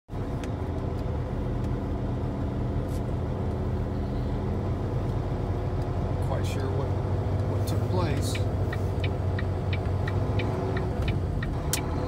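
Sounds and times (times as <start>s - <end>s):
diesel truck engine running: 0.1s - 12.0s
tyre and road noise: 0.1s - 12.0s.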